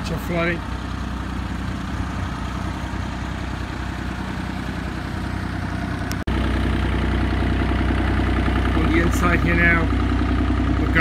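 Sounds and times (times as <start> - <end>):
diesel engines idling: 0.0 - 11.0.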